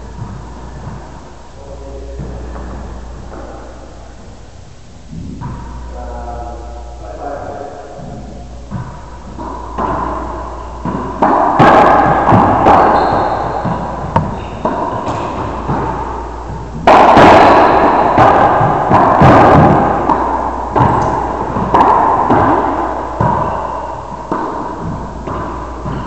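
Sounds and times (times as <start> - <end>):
racquetball hits echoing: 0.0 - 4.2, 5.1 - 5.9, 7.4 - 26.0.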